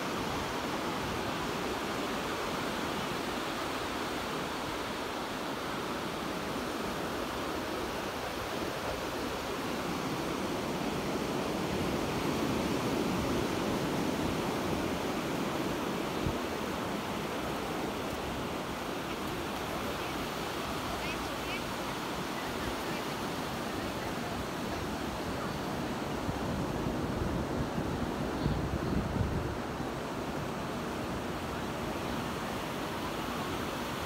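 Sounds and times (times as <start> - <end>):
waves breaking on beach: 0.0 - 34.0.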